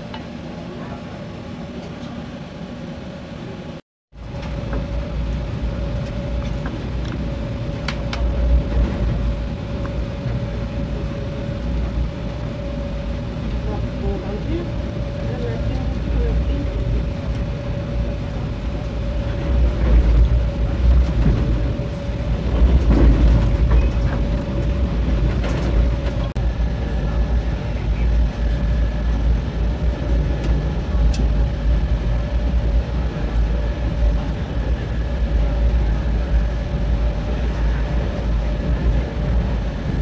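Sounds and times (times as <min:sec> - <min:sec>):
constant hum: 0:00.0 - 0:40.0
train wheels rumbling on rails: 0:03.5 - 0:40.0.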